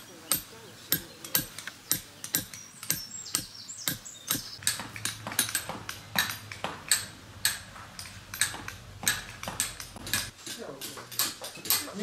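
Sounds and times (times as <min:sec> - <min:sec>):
chisels tapping on stone: 0:00.3 - 0:12.0.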